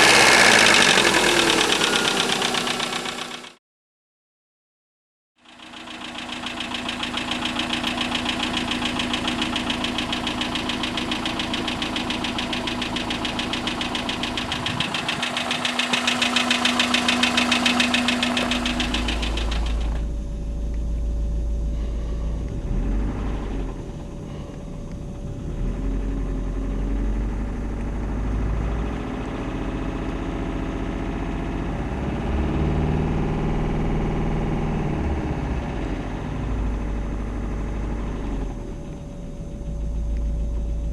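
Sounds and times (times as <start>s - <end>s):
engine knocking: 0.0s - 3.6s, 5.4s - 40.9s
deep low engine rumble: 5.8s - 40.9s.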